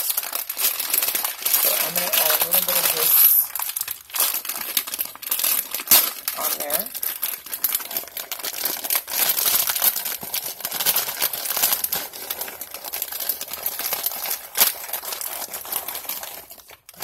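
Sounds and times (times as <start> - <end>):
crunchy strips pouring: 0.0 - 17.0
plastic bag crinkling: 0.0 - 17.0.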